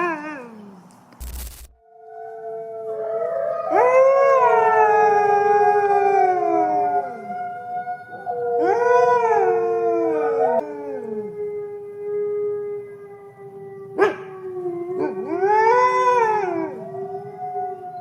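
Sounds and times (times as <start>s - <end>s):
wolves howling in chorus: 1.9s - 18.0s.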